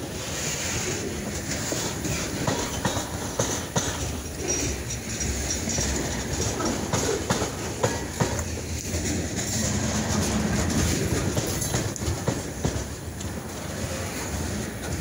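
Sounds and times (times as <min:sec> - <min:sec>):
freight train rumbling: 0:00.0 - 0:15.0
wheels clacking over rail joints: 0:00.0 - 0:15.0.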